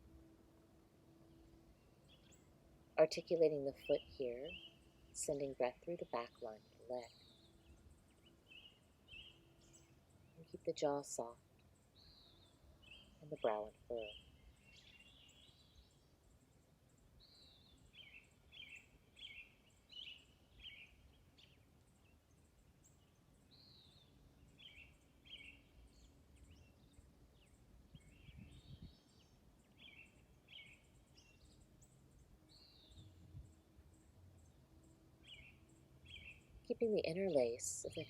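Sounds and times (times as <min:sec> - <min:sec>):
songbird singing: 0:01.1 - 0:38.0.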